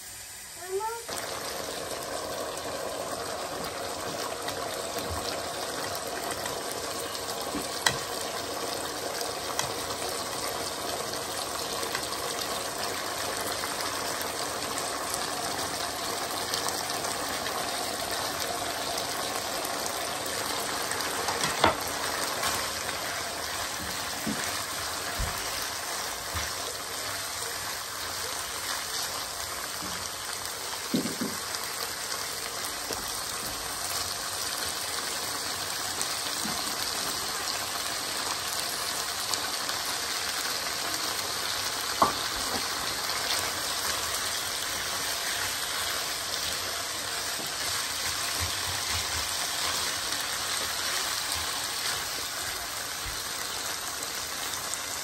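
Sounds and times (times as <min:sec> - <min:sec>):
meat and carrots sizzling in a pan: 0:00.0 - 0:55.0.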